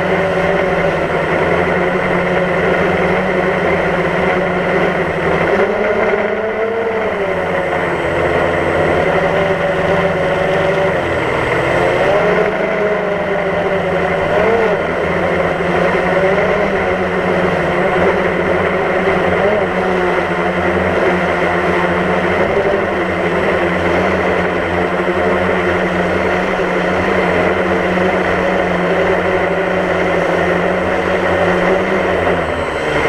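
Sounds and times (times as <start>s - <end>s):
drone propellers buzzing: 0.0s - 33.0s.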